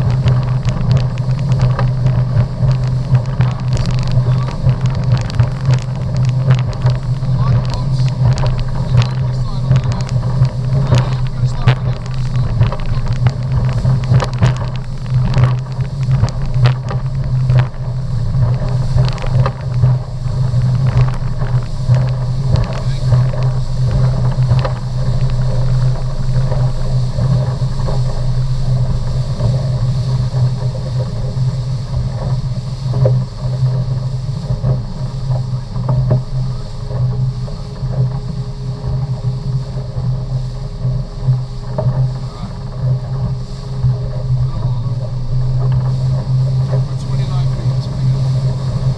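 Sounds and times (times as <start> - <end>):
motorboat engine drone: 0.0 - 48.9
rushing wind: 0.0 - 48.9
water noise: 0.0 - 48.9.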